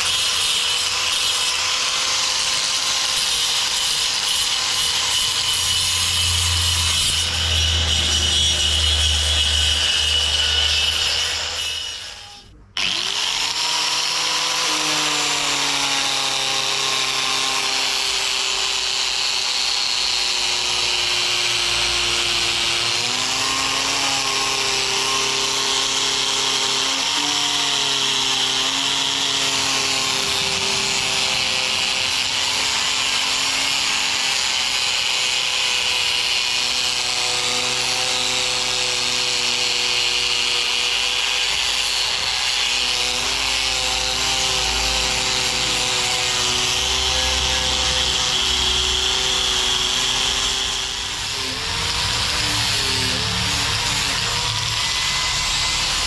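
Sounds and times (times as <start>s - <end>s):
angle grinder sanding wood: 0.0s - 56.0s.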